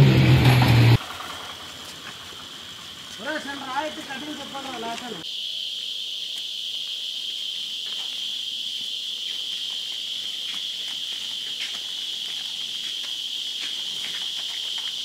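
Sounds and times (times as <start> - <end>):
high-pitched insect chorus: 1.0 - 15.0.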